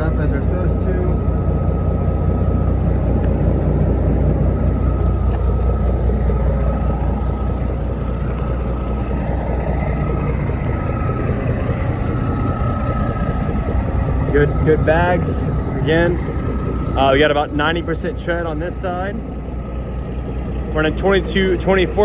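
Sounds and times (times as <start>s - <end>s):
diesel truck engine idling: 0.0s - 22.0s
thin steady whine: 0.0s - 22.0s.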